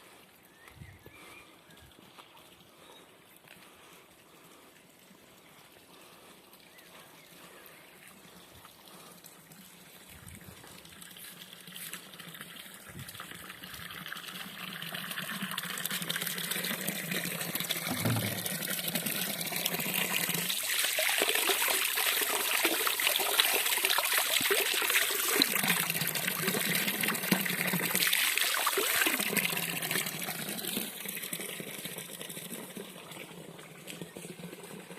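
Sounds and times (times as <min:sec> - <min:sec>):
running water: 0:03.8 - 0:34.9.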